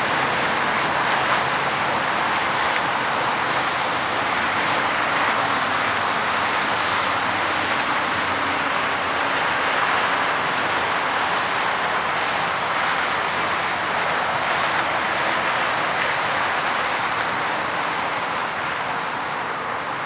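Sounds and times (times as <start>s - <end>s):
freeway traffic roar: 0.0s - 20.0s.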